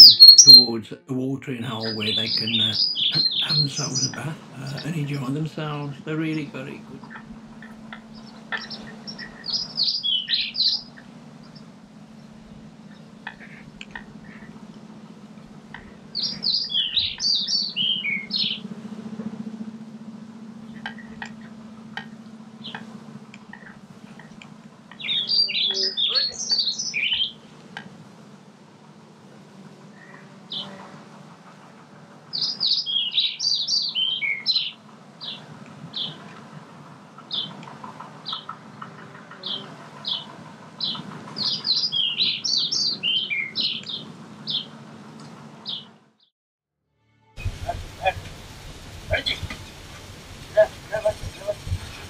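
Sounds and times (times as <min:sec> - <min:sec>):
songbird chirping: 0:00.0 - 0:46.0, 0:47.4 - 0:52.0
steady low hum: 0:00.0 - 0:46.2, 0:47.3 - 0:52.0.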